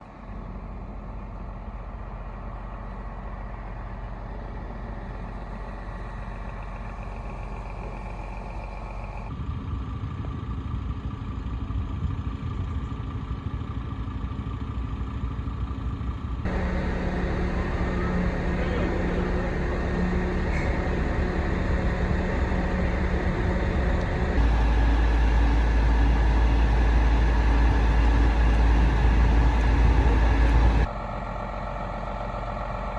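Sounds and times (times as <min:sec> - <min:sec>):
heavy engines running: 0:00.0 - 0:32.9.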